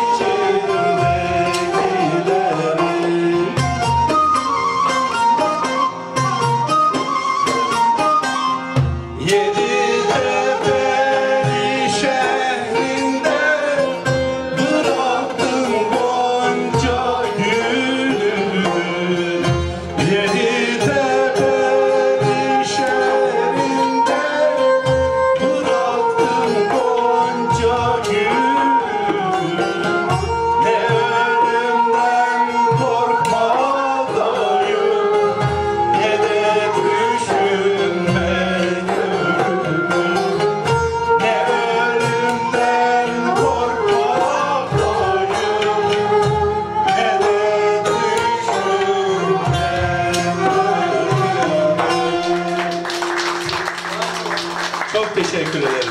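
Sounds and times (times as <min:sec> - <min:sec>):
folk song singing with instruments: 0:00.0 - 0:55.9.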